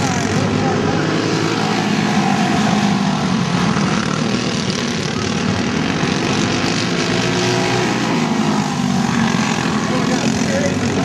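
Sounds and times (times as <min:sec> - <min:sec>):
go-kart engines passing: 0:00.0 - 0:11.0.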